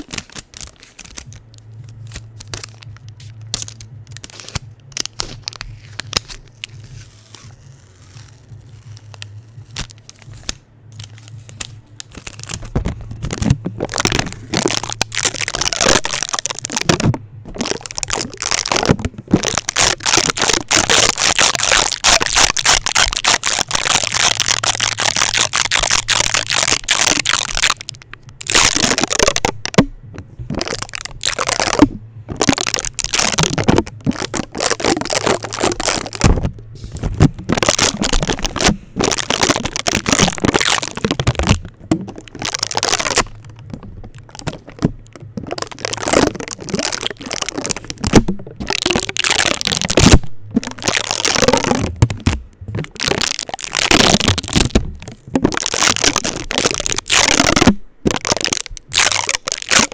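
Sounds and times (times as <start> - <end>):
sticky tape crackling on microphone: 0.0 - 59.9.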